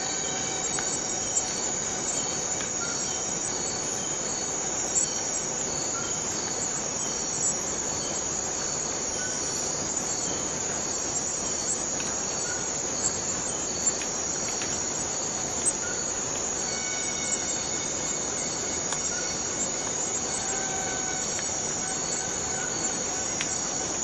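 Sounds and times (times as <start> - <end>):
cicadas buzzing: 0.0 - 24.0.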